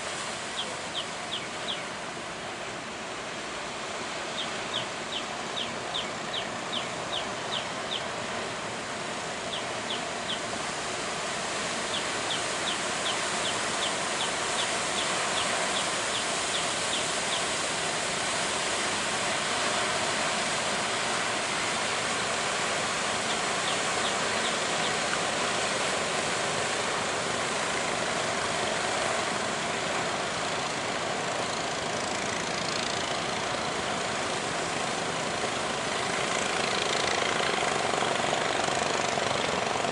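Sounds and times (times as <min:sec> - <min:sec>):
boat engine running: 0:00.0 - 0:39.9
wash of noise: 0:00.0 - 0:39.9.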